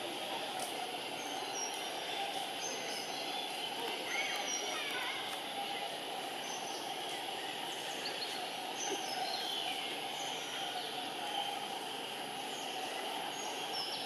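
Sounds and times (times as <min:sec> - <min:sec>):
hiss-like forest drone: 0:00.0 - 0:14.0.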